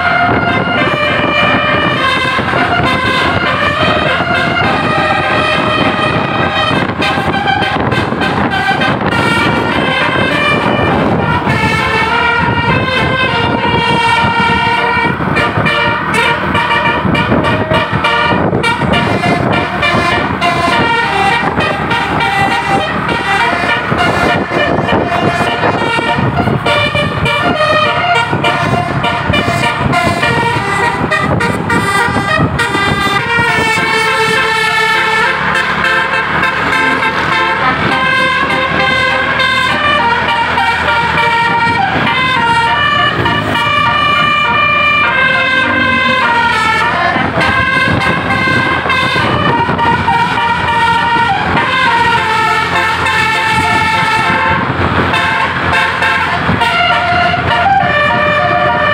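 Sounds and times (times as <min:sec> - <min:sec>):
musical air horn melody: 0:00.0 - 0:58.9.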